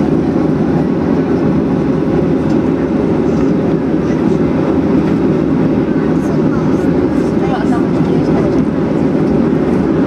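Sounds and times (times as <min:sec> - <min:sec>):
jet engines in airplane cabin: 0:00.0 - 0:10.0.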